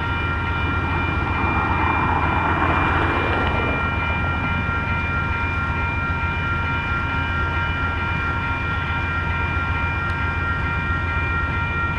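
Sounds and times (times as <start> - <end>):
diesel locomotive engine rumble: 0.0 - 11.9
high-pitched multi-tone whine: 0.0 - 11.9.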